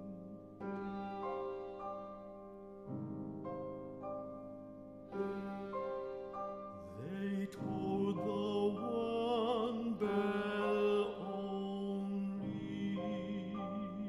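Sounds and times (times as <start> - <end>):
classical chamber music: 0.0 - 14.0.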